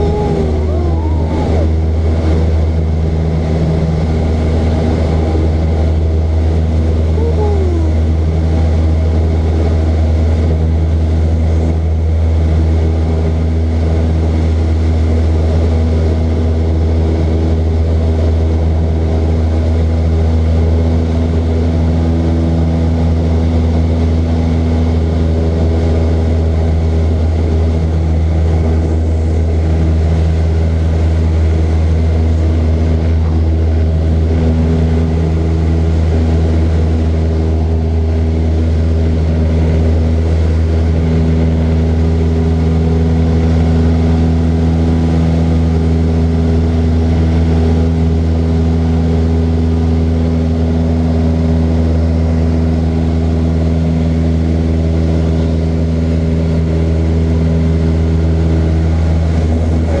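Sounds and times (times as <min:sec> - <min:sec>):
propeller aircraft engine drone: 0:00.0 - 1:00.0.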